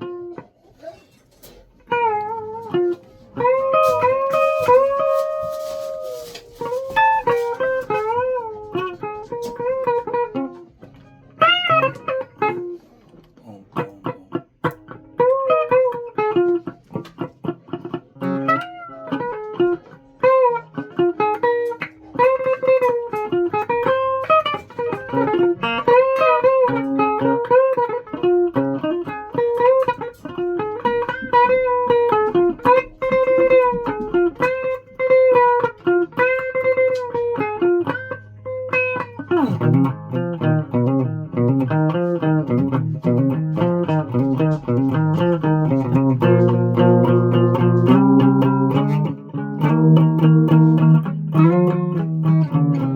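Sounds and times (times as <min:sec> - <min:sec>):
guitar plucked notes with bends: 0:00.0 - 0:52.9.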